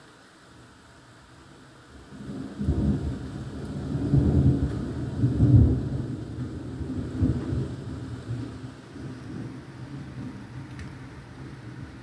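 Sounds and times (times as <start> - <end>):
thunder rumbling: 2.1 - 12.0.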